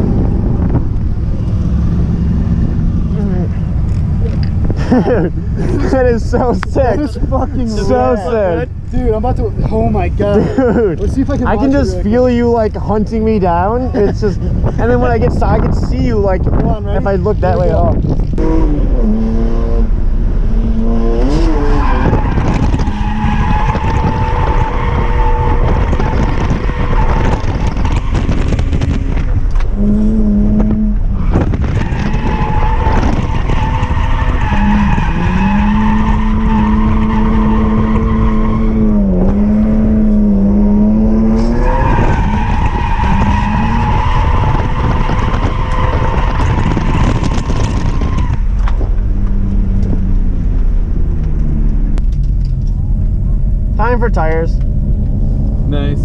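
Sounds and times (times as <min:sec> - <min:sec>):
car engine at high revs: 0:00.0 - 0:56.0.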